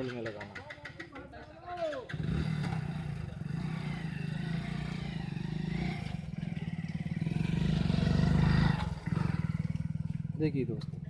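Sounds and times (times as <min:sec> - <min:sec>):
engine pulsing rumble: 0:02.1 - 0:11.0.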